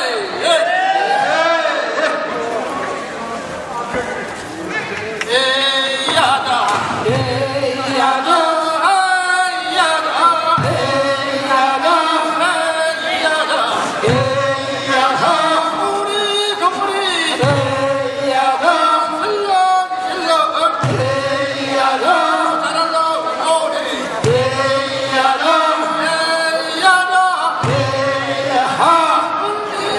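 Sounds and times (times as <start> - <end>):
men chanting work song: 5.2 - 29.9.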